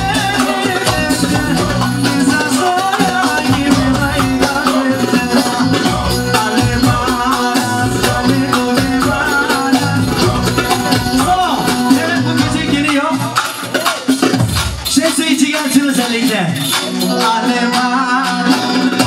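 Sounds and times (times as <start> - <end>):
band music: 0.0 - 19.0.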